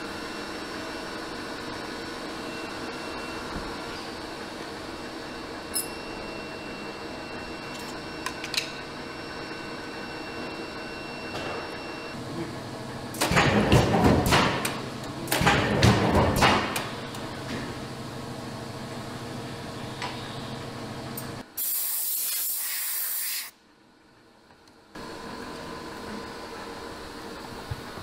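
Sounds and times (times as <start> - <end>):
workshop hum: 0.0 - 28.0.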